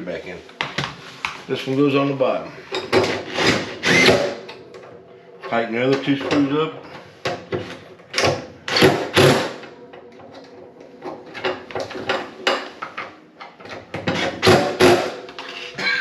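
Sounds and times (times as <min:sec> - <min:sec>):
hand tools clicking and scraping: 0:02.6 - 0:16.0.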